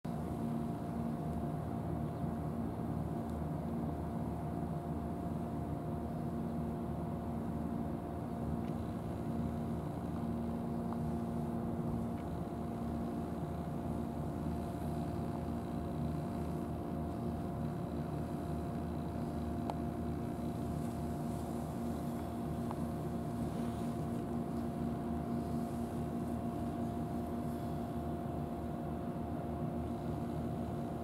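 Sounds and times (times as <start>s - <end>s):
low mechanical hum: 0.1s - 31.0s.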